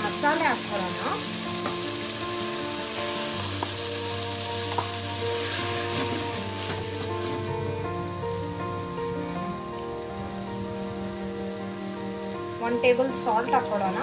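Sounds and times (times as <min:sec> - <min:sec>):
vegetables sizzling in oil: 0:00.0 - 0:07.6, 0:08.8 - 0:14.0.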